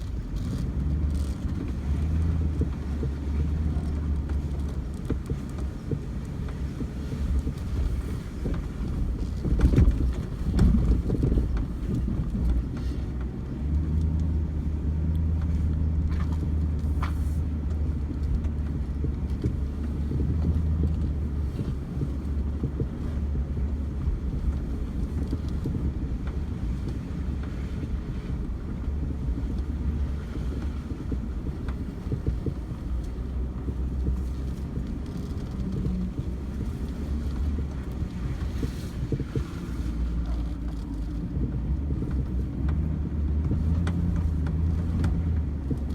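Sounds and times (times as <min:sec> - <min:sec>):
vehicle engine rumbling: 0:00.0 - 0:45.9.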